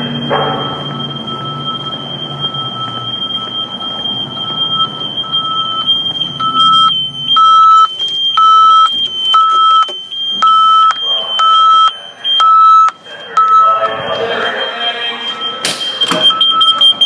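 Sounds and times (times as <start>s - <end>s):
electronic alarm beeping: 0.0s - 17.0s.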